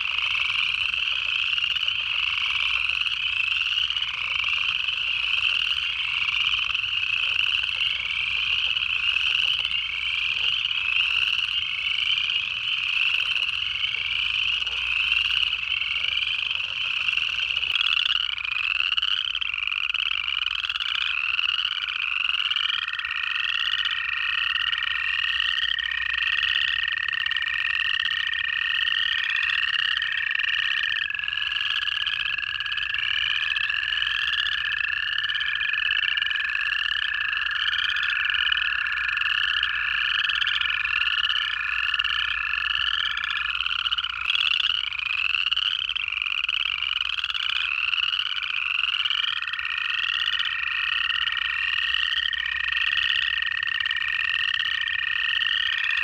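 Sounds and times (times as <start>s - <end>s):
frogs trilling: 0.0s - 56.0s.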